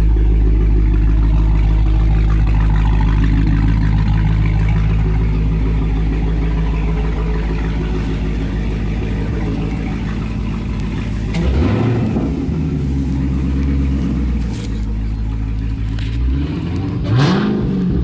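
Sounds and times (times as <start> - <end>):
deep engine running: 0.0 - 18.0.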